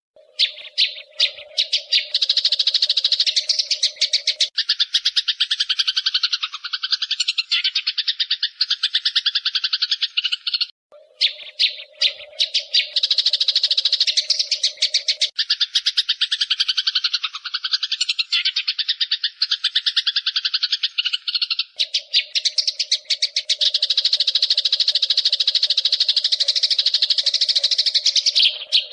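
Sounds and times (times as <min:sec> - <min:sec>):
sparrows chirping rapidly: 0:00.2 - 0:28.9.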